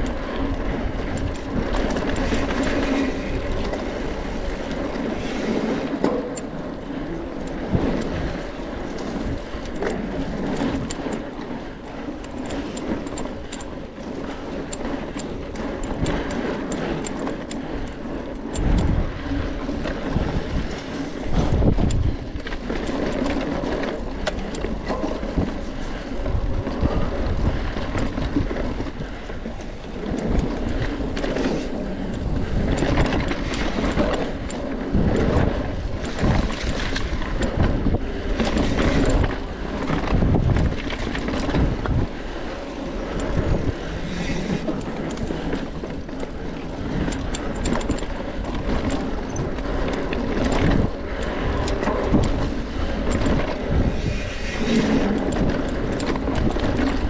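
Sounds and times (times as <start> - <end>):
bike knocks and rattles: 0.0 - 57.0
wind on microphone: 0.0 - 57.0.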